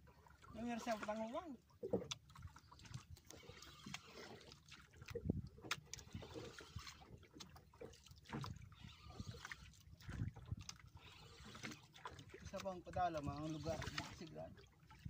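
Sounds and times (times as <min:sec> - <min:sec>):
faint knocks and clicks on boat: 0:00.0 - 0:15.0
low water noise: 0:00.0 - 0:15.0.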